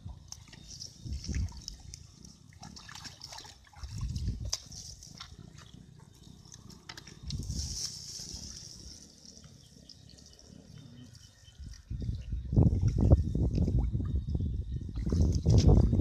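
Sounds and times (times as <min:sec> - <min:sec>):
low water sloshing: 0:00.0 - 0:14.2
water splashing and trickling: 0:00.0 - 0:16.0.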